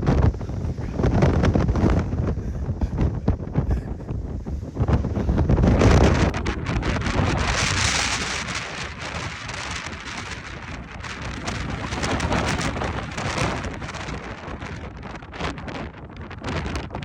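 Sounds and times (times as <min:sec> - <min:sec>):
strong gusting wind: 0:00.0 - 0:17.0.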